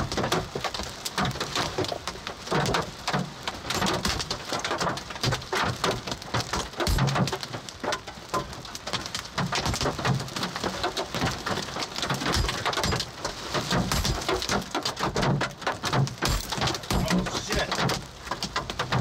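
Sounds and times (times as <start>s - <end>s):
hail and rain on car roof: 0.0s - 19.0s.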